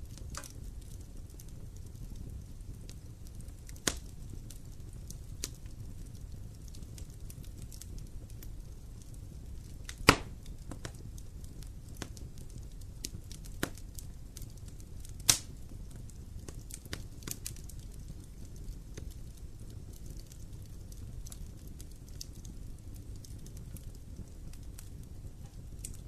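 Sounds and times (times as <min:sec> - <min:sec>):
campfire crackling: 0:00.0 - 0:26.0
loud fire pops: 0:00.0 - 0:26.0.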